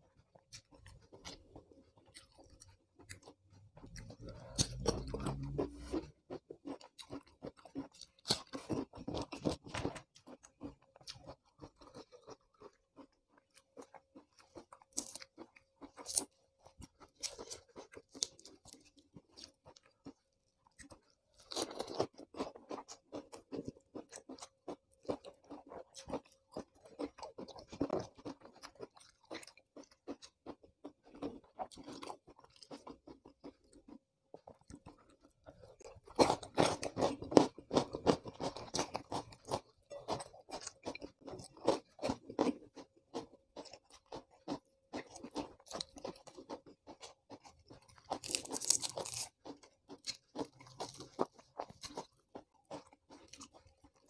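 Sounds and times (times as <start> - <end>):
crunching raw vegetables: 0.1 - 54.0.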